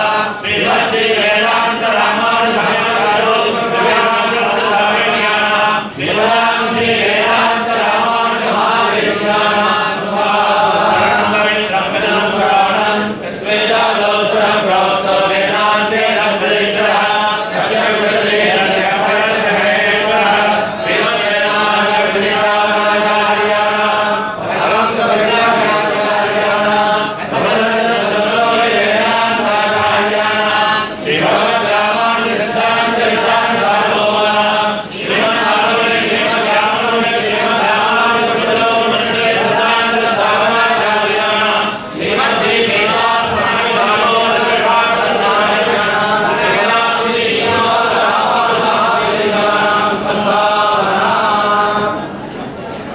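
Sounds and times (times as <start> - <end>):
group of voices chanting: 0.0 - 52.2.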